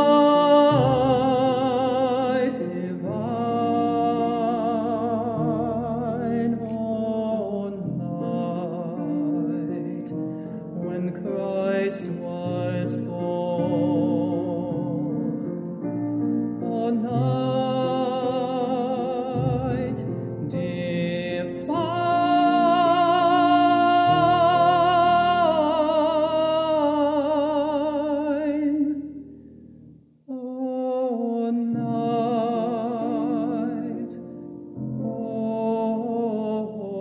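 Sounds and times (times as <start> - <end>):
man singing with vibrato: 0.0 - 29.2, 30.3 - 37.0.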